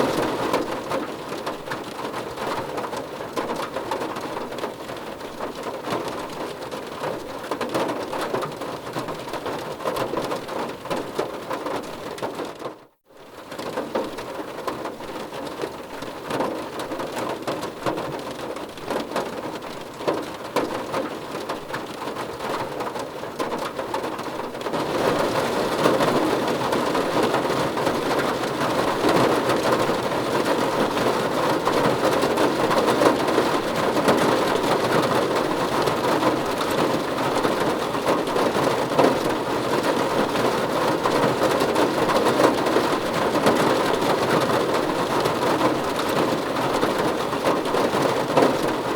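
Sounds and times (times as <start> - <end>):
rain on a car roof: 0.0 - 48.9.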